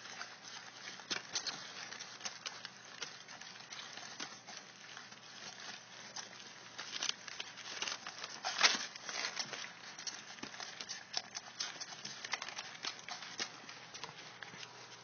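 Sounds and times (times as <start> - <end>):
puppies suckling: 0.0 - 15.0
rustling: 0.0 - 15.0.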